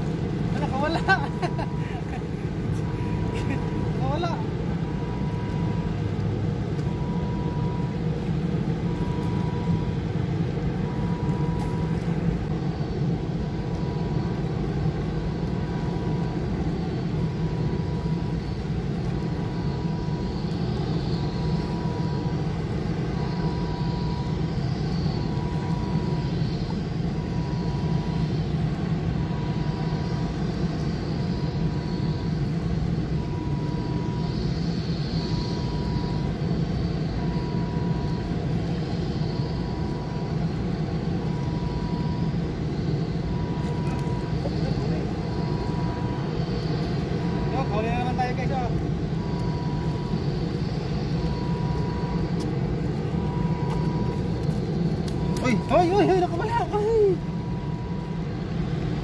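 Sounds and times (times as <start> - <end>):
low mechanical rumble: 0.0 - 59.0.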